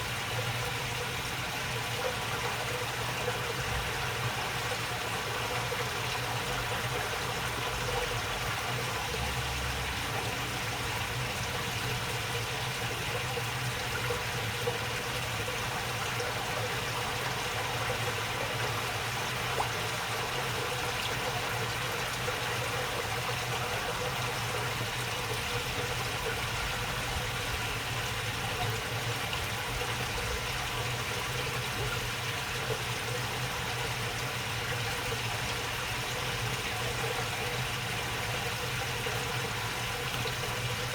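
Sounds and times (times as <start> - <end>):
water babbling in a channel: 0.0 - 40.9.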